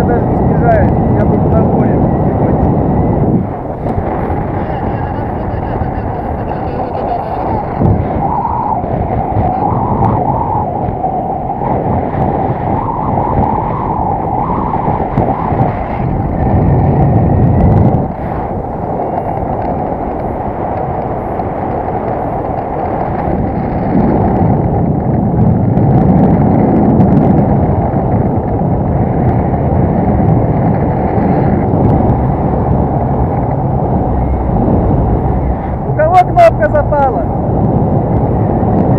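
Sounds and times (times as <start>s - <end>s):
wind rushing across microphone: 0.0s - 38.9s.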